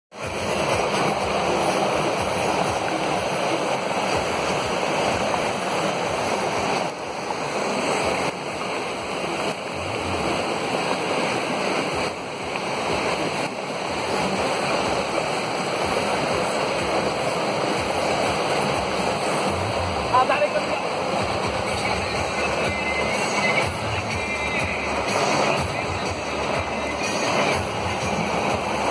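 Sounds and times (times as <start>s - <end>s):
heavy rain and rushing water: 0.1s - 28.9s.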